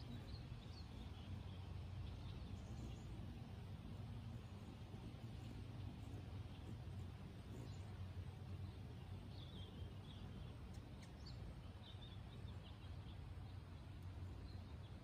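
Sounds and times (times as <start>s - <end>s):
faint bird chirps: 0.0s - 15.0s
low background rumble: 0.0s - 15.0s.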